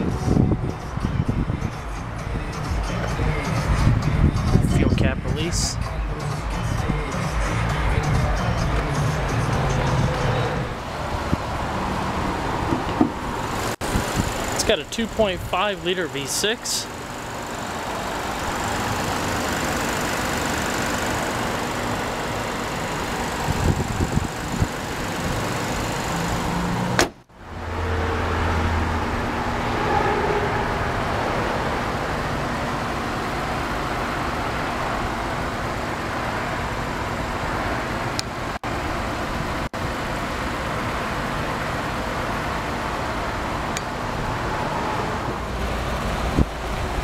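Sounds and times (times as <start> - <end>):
outdoor noise: 0.0 - 47.0
car engine idling: 4.8 - 27.6, 30.9 - 47.0.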